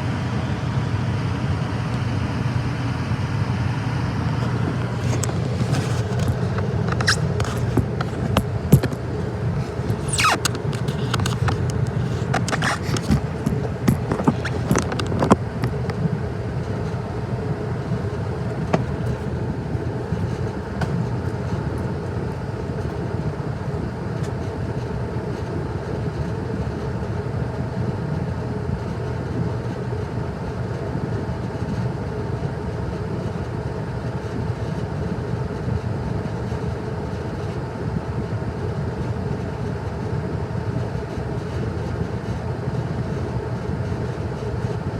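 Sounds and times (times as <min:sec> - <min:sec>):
gas furnace humming: 0:00.0 - 0:44.9.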